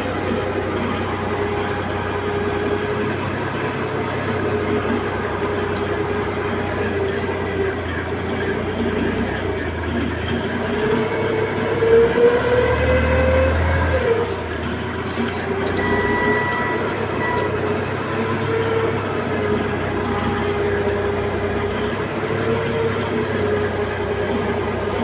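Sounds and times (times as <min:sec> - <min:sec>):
heavy machine engine revving: 0:00.0 - 0:25.0.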